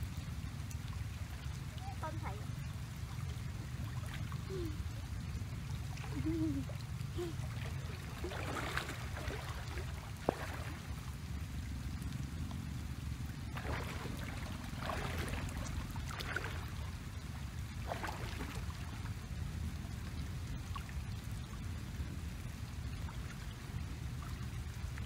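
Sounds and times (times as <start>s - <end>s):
water running along a ditch: 0.0s - 25.0s.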